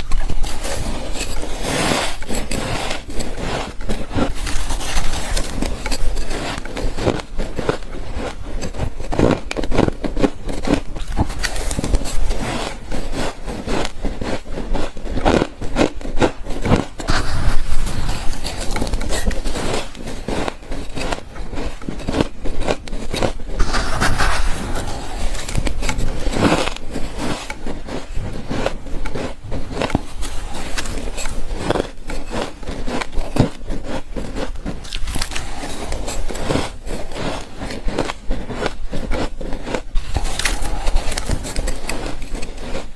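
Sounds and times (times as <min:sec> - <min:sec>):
frost crunching and scraping: 0:00.0 - 0:42.9.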